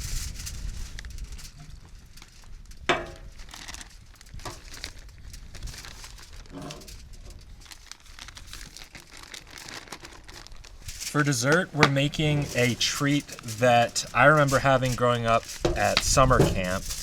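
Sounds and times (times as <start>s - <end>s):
light crinkling: 0.0s - 17.0s.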